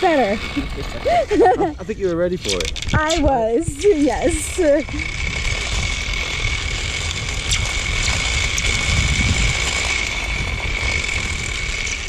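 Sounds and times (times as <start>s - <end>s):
low rumble: 0.0s - 12.0s
zipline pulleys whining on cable: 0.0s - 12.0s.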